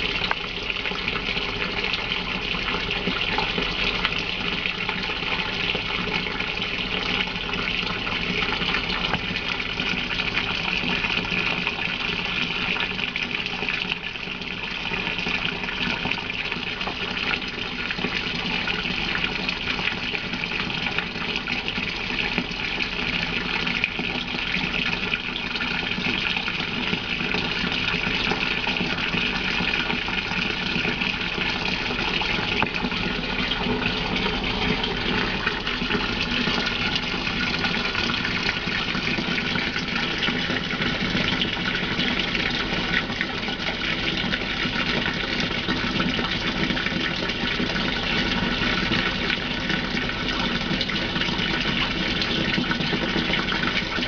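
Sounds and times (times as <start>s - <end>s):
water pouring into washing machine drum: 0.0s - 54.0s.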